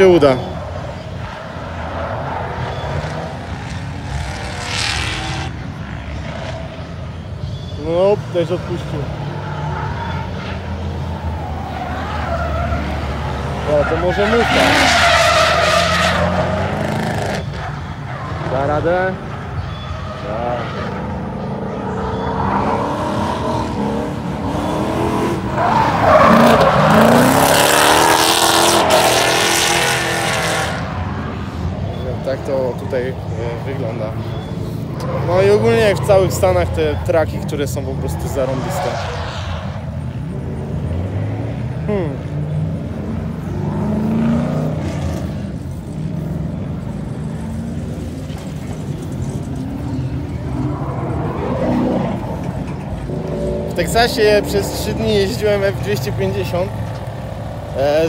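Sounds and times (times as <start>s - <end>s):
car engine running hard: 0.0s - 58.0s
tyres squealing: 7.4s - 58.0s.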